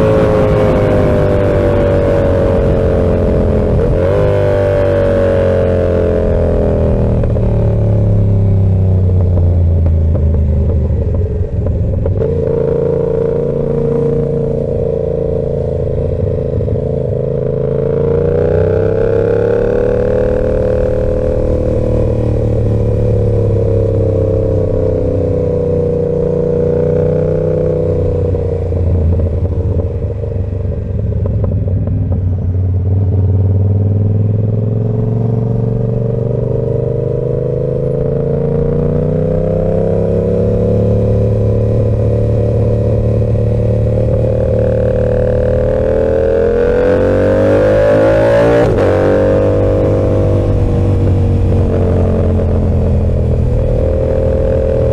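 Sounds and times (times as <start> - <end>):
motorcycle engine: 0.0 - 54.9.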